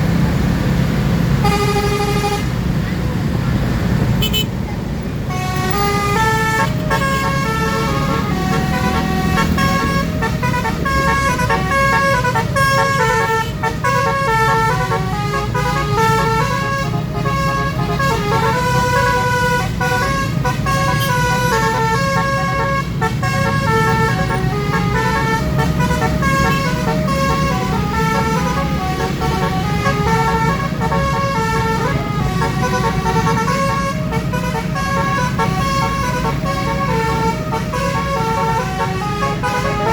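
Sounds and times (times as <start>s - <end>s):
vehicle engine rumble: 0.0s - 39.9s
musical horn melody: 1.4s - 2.5s, 5.3s - 39.9s.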